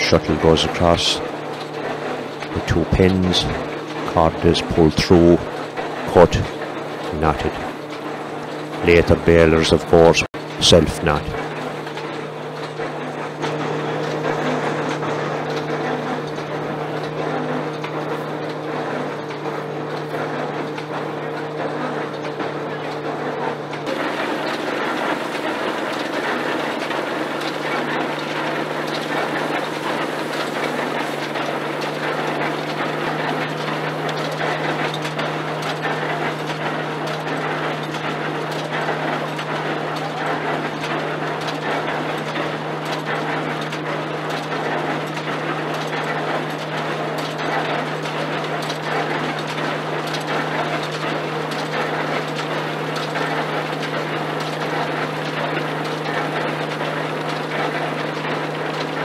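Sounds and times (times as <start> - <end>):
threshing machine running: 0.0 - 59.0.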